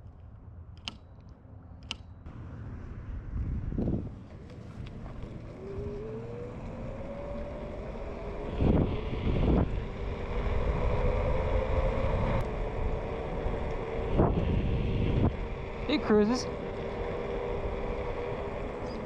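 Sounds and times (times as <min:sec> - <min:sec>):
wind rumble on microphone: 0:02.3 - 0:19.0
electric scooter motor whining: 0:02.5 - 0:19.0.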